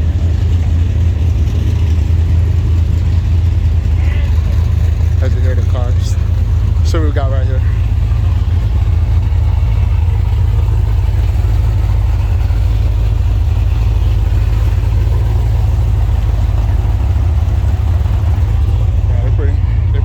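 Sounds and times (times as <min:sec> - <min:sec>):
car engines rumbling: 0:00.0 - 0:20.0.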